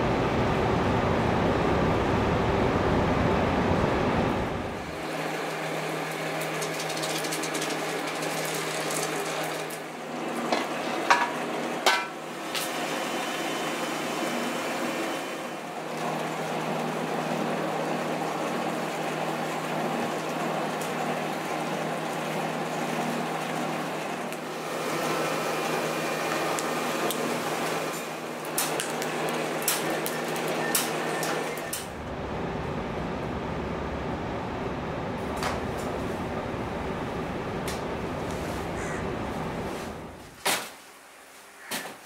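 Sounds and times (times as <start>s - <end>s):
rubber mill humming and hissing: 0.0s - 42.0s.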